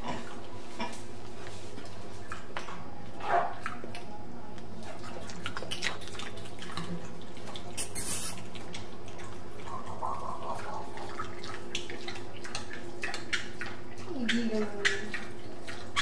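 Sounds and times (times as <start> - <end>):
pig snuffling and sniffing: 0.0 - 4.0, 4.6 - 16.0.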